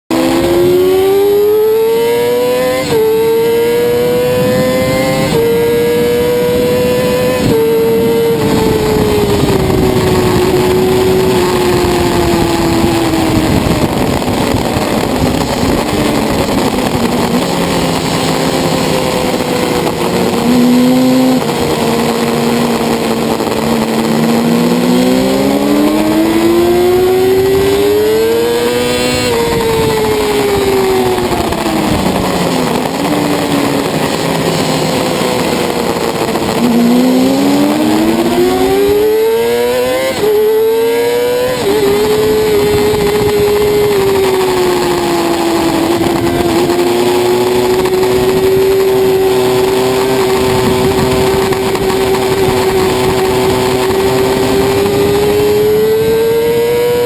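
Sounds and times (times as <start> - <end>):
motorcycle engine revving: 0.0 - 57.0
wind rush: 2.4 - 57.0.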